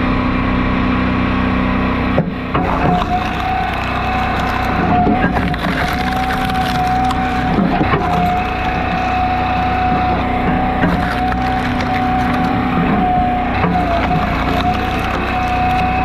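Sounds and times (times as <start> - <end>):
log splitter whining: 0.3 - 16.0
firewood creaking and splintering: 1.4 - 16.0.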